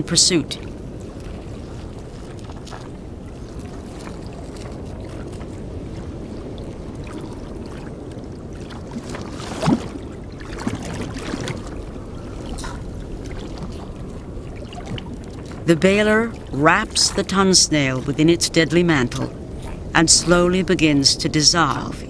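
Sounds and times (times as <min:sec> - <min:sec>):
low underwater rumble: 0:00.5 - 0:22.0.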